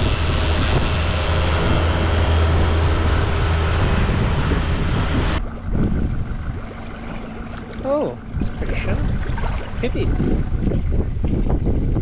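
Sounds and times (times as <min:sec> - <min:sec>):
boat engine drone: 0:00.0 - 0:12.0
wake water rushing: 0:00.0 - 0:12.0
wind: 0:00.0 - 0:12.0.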